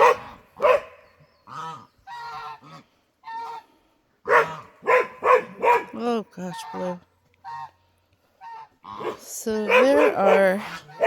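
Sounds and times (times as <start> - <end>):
geese honking: 1.4 - 5.8, 6.4 - 11.0.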